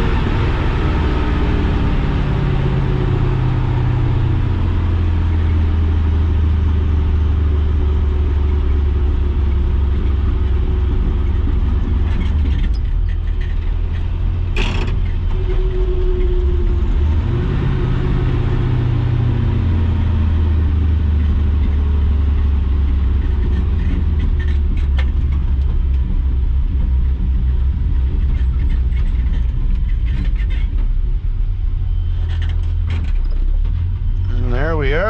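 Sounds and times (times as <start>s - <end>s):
truck engine droning: 0.0s - 35.0s.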